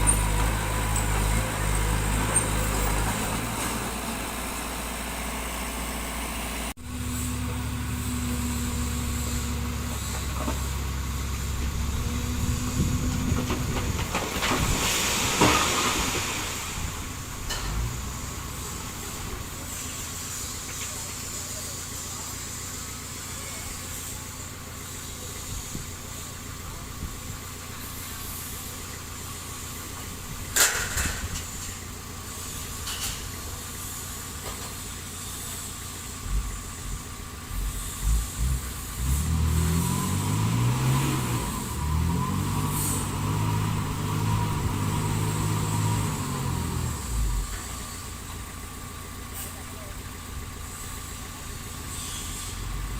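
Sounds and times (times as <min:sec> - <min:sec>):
heavy machinery engine running: 0:00.0 - 0:52.9.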